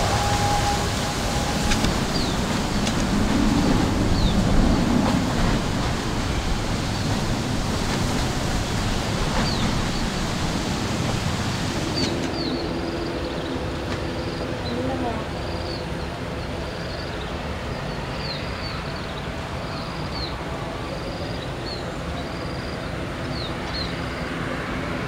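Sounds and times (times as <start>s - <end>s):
turboprop engine roar: 0.0s - 25.0s.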